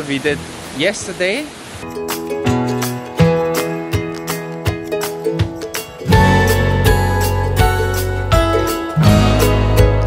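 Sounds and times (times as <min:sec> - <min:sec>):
background music with steady beat: 0:01.8 - 0:10.0.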